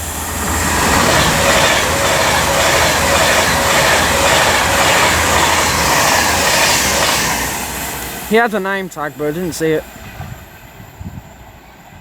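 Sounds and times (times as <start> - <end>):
electric train passing at speed: 0.0 - 12.0.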